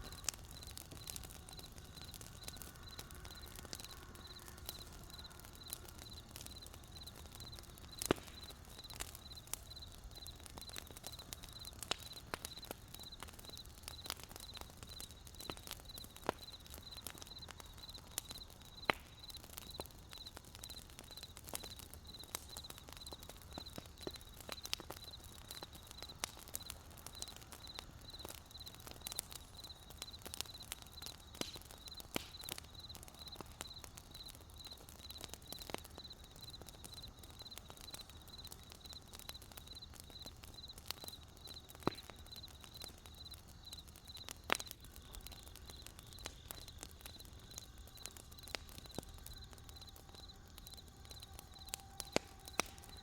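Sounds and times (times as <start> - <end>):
campfire crackling and popping: 0.0 - 53.0
cricket chirping: 0.0 - 53.0.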